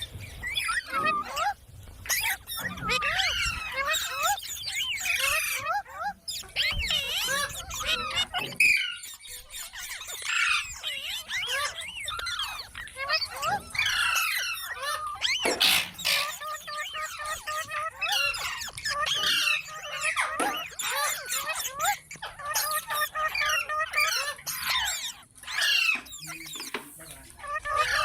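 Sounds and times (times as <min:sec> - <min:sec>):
parrot chattering and calling: 0:00.0 - 0:28.0.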